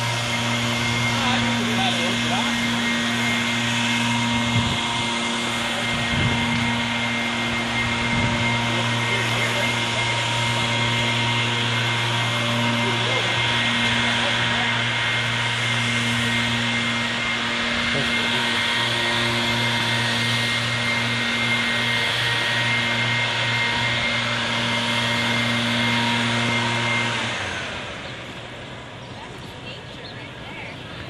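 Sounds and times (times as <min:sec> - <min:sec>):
motor-driven machine running: 0:00.0 - 0:31.0.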